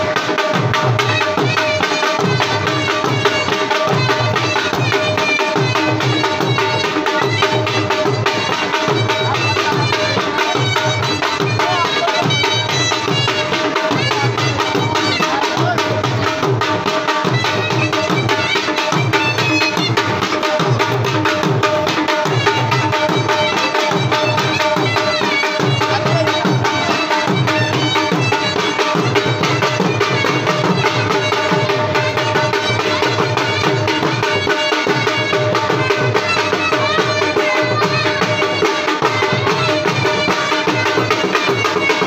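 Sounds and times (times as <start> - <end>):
dhol drum beating fast rhythm: 0.0 - 42.0.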